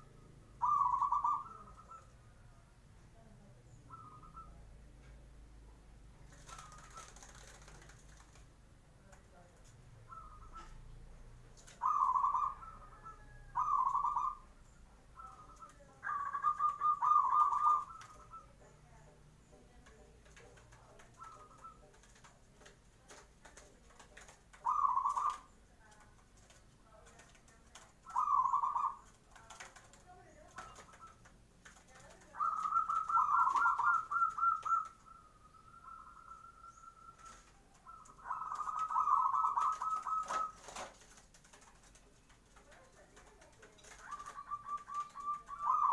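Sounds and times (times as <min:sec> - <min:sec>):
dove cooing: 0:00.0 - 0:02.4, 0:03.9 - 0:04.7, 0:06.3 - 0:08.3, 0:10.0 - 0:11.0, 0:11.6 - 0:26.2, 0:26.9 - 0:45.9
faint clicks and rustles: 0:04.9 - 0:11.9, 0:14.5 - 0:45.9.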